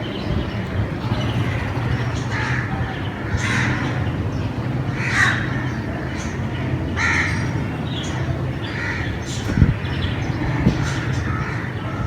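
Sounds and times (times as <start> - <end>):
steady low hum: 0.0 - 12.0
crows cawing: 1.1 - 9.8, 10.7 - 12.0.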